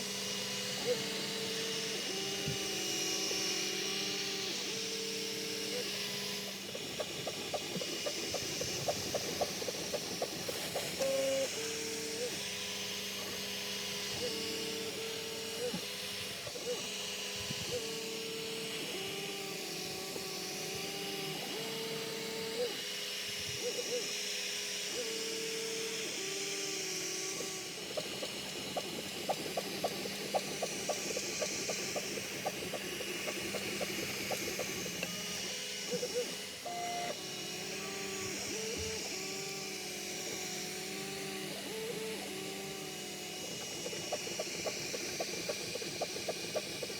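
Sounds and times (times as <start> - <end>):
rapid printer ticks: 0.0 - 18.8, 25.3 - 46.9
fan hiss and hum: 0.0 - 46.9
stepper motors whining: 0.0 - 46.9.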